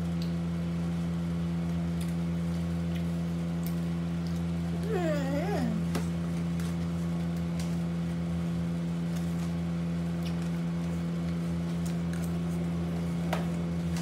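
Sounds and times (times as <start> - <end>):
appliance hum: 0.0 - 14.0.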